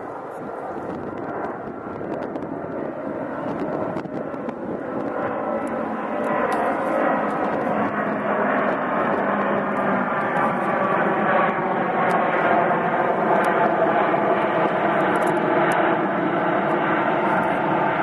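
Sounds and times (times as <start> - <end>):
jet airliner engine rush: 0.0 - 18.0.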